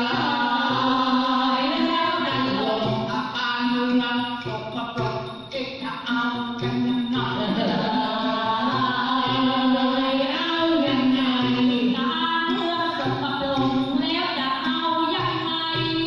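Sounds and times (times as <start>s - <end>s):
women singing folk song: 0.0s - 16.0s.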